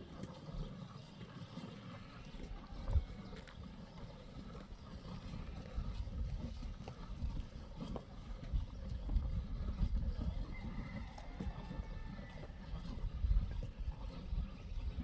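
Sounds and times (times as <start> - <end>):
wind rumble on microphone: 2.0 - 15.0.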